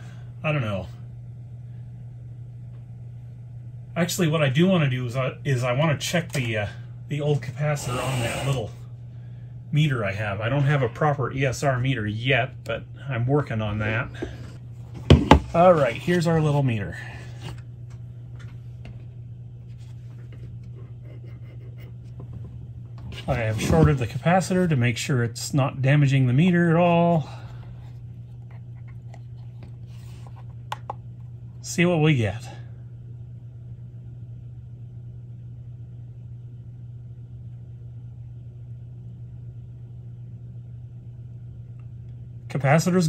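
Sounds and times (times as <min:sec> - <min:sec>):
low electrical hum: 0:00.0 - 0:43.0.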